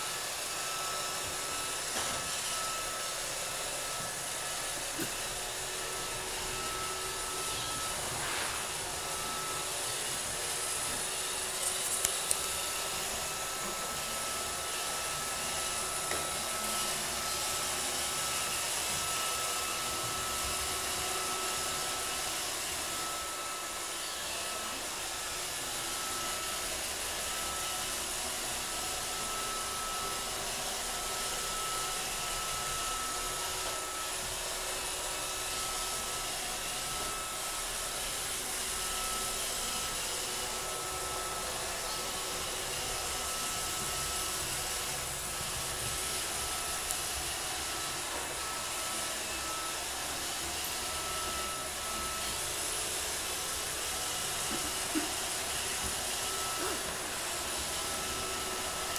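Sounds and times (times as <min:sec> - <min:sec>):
robot vacuum whirring: 0:00.0 - 0:58.9
thin steady whine: 0:00.0 - 0:58.9.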